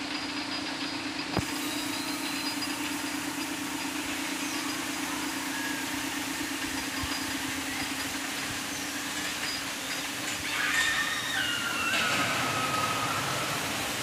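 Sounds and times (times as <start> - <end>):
engine humming: 0.0 - 14.0
noisy hiss: 1.2 - 14.0.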